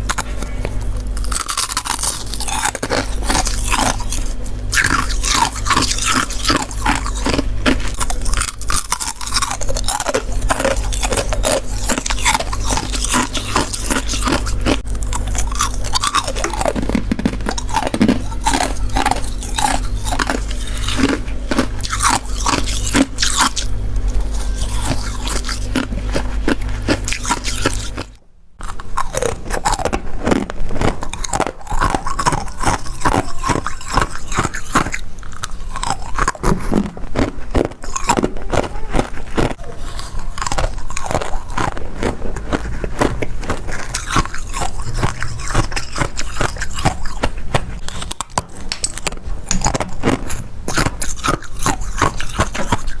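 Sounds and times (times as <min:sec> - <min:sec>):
crunching freezer frost: 0:00.0 - 0:53.0
steady low hum: 0:00.0 - 0:53.0.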